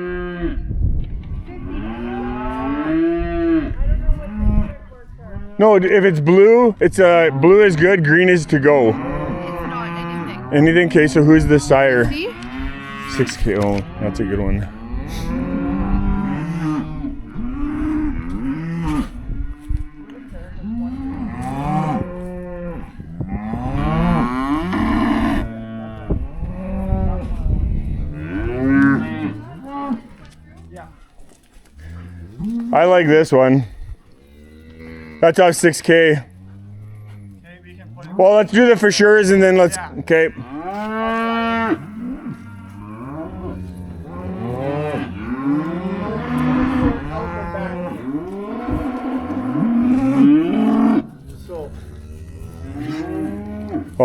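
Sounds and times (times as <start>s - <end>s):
cattle bawling: 1.5s - 27.4s, 28.0s - 30.8s, 31.8s - 54.0s.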